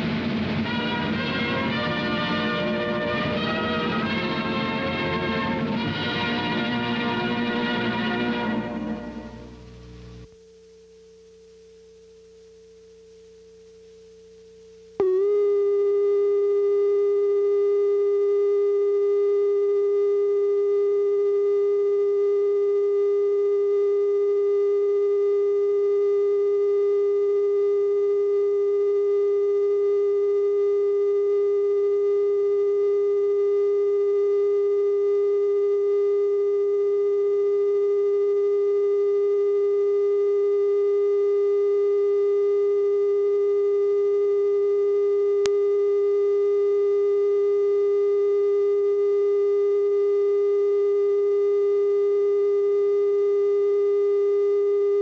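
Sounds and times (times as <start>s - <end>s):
television test tone: 0.0s - 55.0s.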